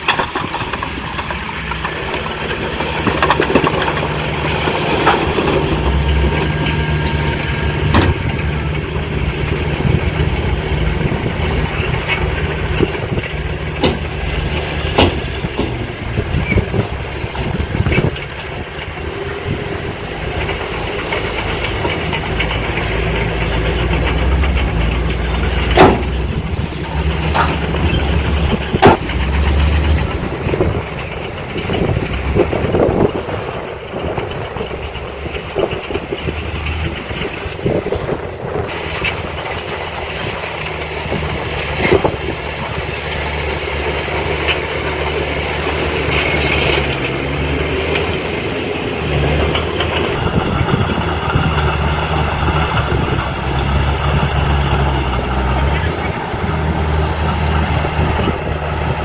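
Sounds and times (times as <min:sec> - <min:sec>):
diesel engine of heavy machinery: 0:00.0 - 0:59.0.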